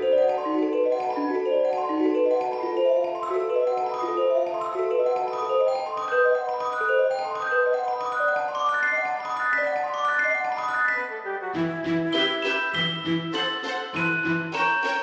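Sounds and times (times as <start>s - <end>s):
bell-like mallet percussion melody: 0.0s - 15.0s.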